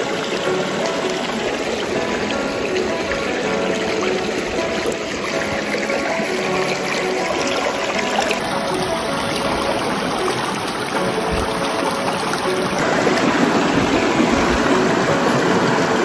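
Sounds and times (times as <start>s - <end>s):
stream babbling over stones: 0.0s - 16.0s.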